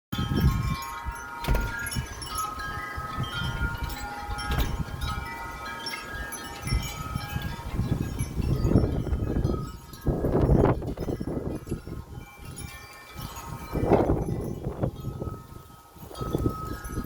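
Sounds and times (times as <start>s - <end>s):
wind chimes ringing: 0.2s - 17.0s
wind rumbling on microphone: 0.2s - 17.0s.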